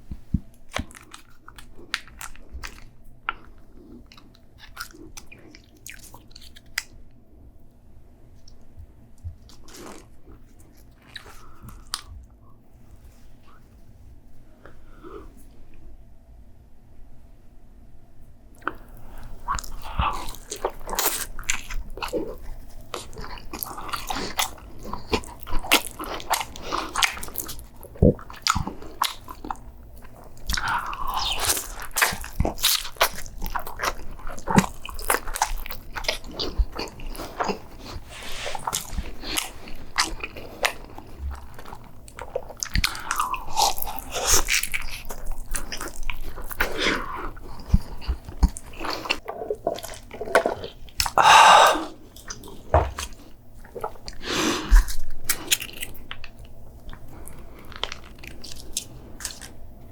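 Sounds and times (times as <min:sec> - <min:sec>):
person chewing food: 0:00.1 - 0:07.0, 0:08.4 - 0:12.3, 0:18.6 - 0:59.6.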